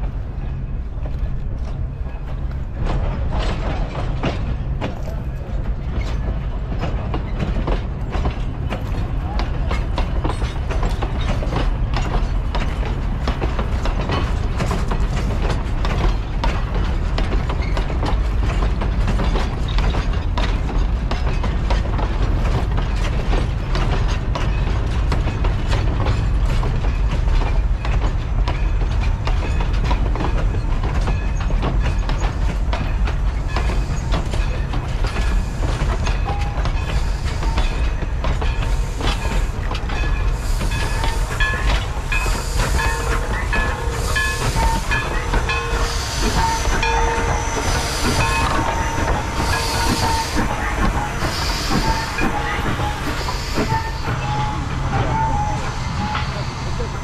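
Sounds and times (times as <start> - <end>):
rail cars rumbling past: 0.0 - 57.0
wheels and couplings clanking: 0.0 - 57.0.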